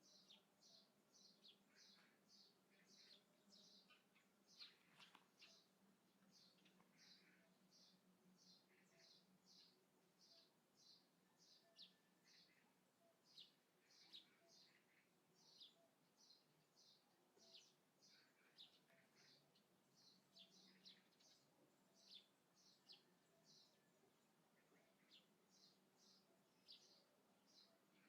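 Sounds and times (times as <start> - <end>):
faint bird chirps: 0.0 - 28.0.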